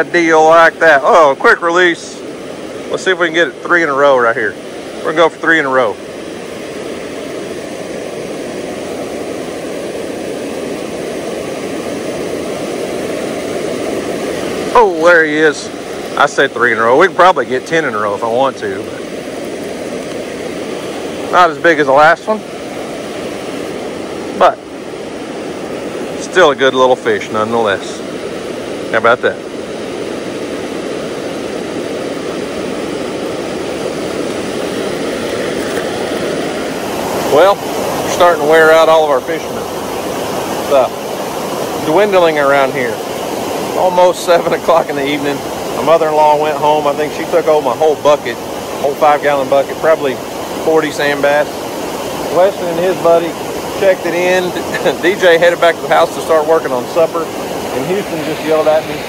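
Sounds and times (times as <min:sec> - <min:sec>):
water rushing over dam: 0:00.0 - 0:59.0.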